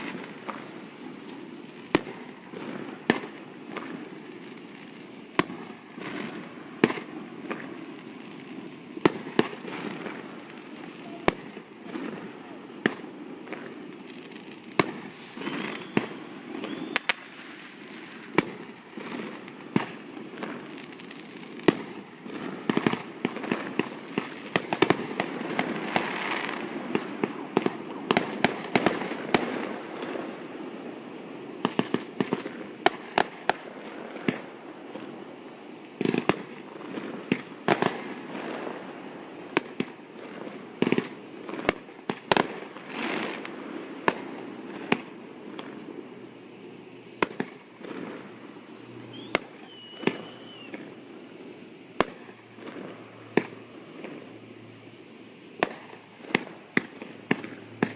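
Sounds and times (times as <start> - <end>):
fireworks bangs and crackles: 0.0 - 54.3, 55.4 - 57.9
steady high-pitched tone: 0.0 - 57.9.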